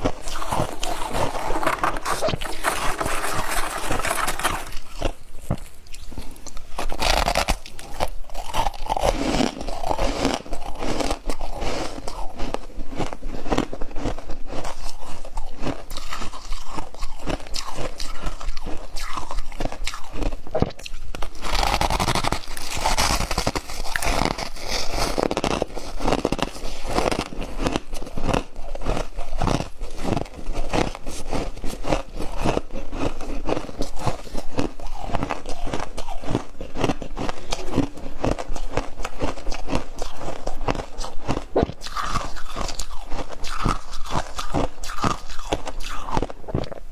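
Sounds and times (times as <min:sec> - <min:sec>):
biting and chewing frost crunches: 0:00.0 - 0:46.9.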